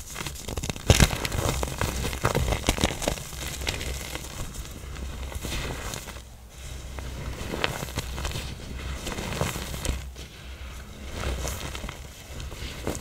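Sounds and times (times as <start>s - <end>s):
powder blocks crushing and crunching: 0.0s - 13.0s.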